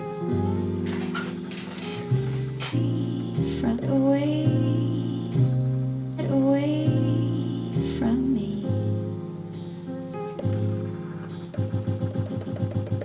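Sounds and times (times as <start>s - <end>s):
lo-fi hip-hop beat: 0.0s - 8.0s, 9.5s - 13.0s.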